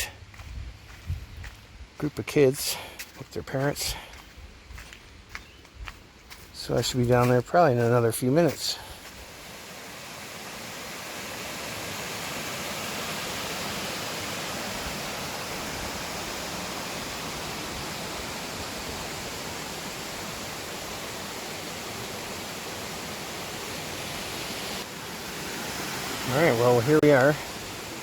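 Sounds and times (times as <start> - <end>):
waterfall and creek rushing: 0.0 - 28.0.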